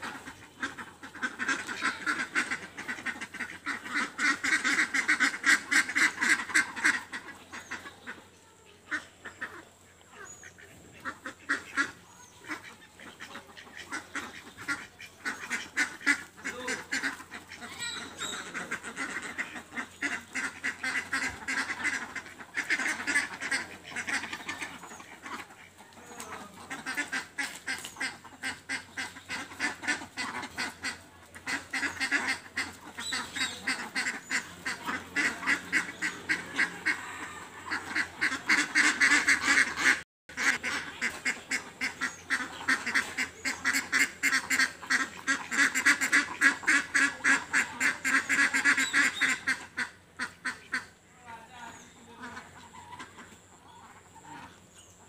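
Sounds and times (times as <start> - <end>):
ducks quacking: 0.0 - 55.0.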